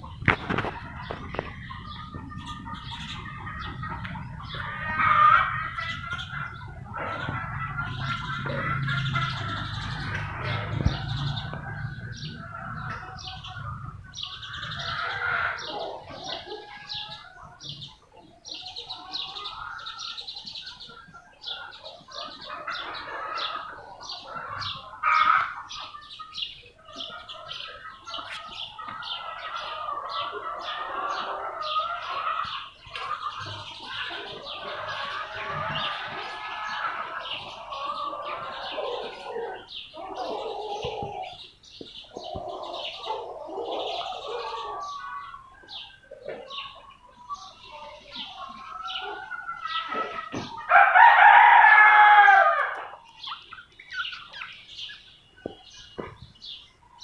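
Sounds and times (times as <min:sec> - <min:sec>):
other bird calls: 0:00.0 - 0:57.0
small birds chirping: 0:00.0 - 0:57.0.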